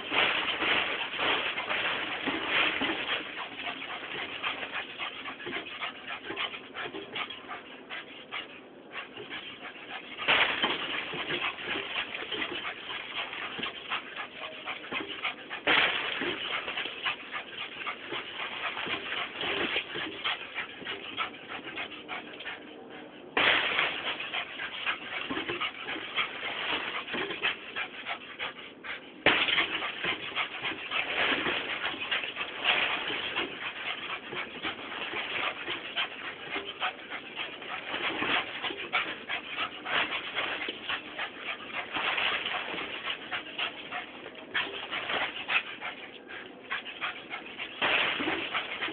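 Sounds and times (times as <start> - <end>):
dense scratchy patter: 0.0 - 22.7, 23.4 - 48.9.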